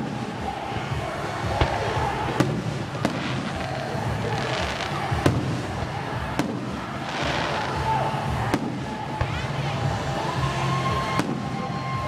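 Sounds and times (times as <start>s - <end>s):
fireworks bangs: 0.0s - 10.1s, 11.0s - 12.0s.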